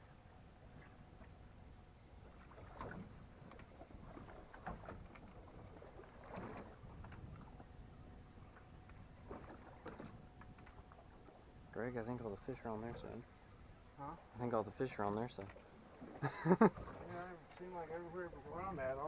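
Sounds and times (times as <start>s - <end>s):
low steady rumble: 0.0s - 19.0s
small waves lapping against hull: 0.0s - 19.0s.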